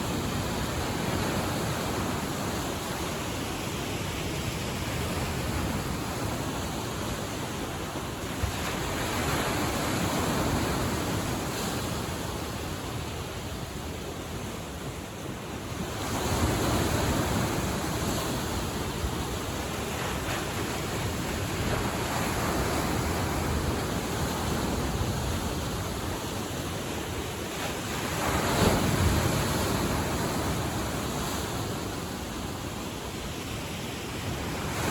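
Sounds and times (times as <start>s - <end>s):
waves washing onto shore: 0.0s - 34.9s
wind on microphone: 0.0s - 34.9s.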